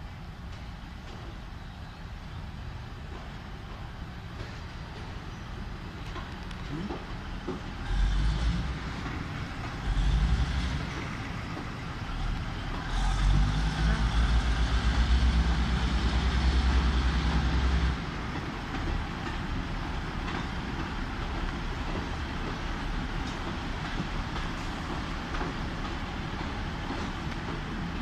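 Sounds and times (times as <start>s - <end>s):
diesel train engines throbbing: 0.0s - 28.0s.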